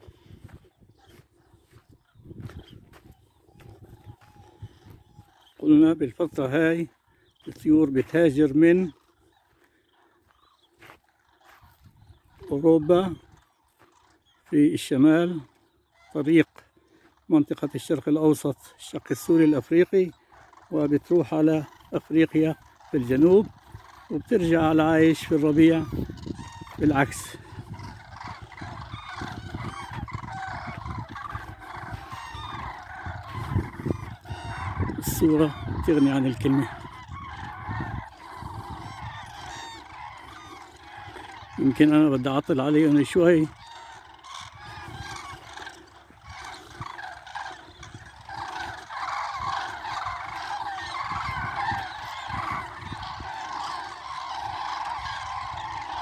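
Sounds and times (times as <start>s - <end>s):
cranes bugling: 0.0s - 56.0s.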